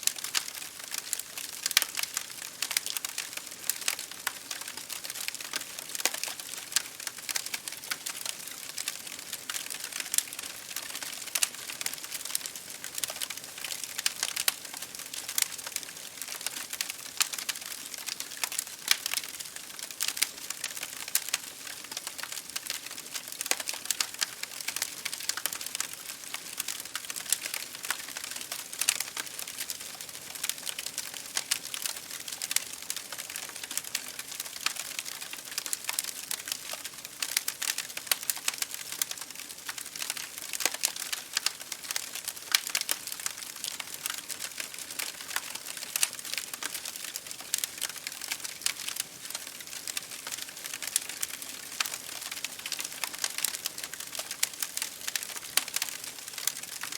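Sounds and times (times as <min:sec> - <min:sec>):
wood fire crackling: 0:00.0 - 0:56.9
rain hitting a window: 0:00.1 - 0:56.9.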